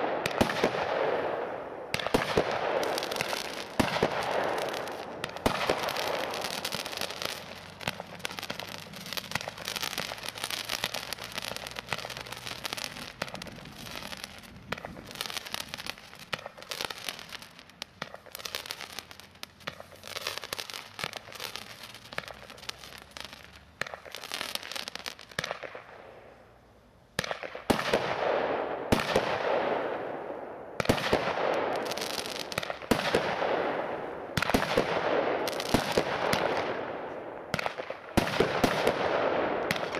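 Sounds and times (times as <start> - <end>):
fireworks launching and bursting: 0.0 - 26.4, 27.2 - 39.9.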